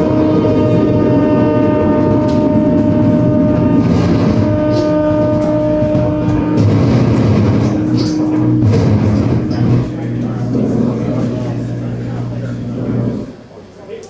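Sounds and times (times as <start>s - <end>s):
dense grinding rumble: 0.0s - 13.6s
droning tones: 0.0s - 14.0s.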